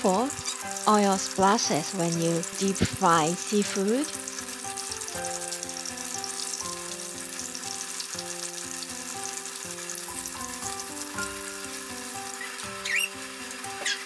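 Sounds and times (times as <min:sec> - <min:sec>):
fish deep-frying in oil: 0:00.0 - 0:14.0.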